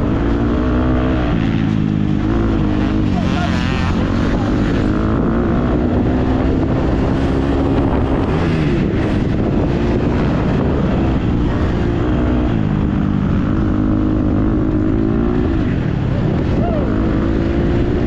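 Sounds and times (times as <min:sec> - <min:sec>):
dirt bike engine revving: 0:00.0 - 0:18.0
wind rumble on microphone: 0:00.0 - 0:18.0.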